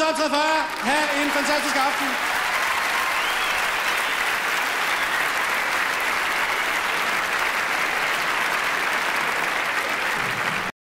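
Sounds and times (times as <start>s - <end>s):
audience applauding: 0.2s - 10.8s.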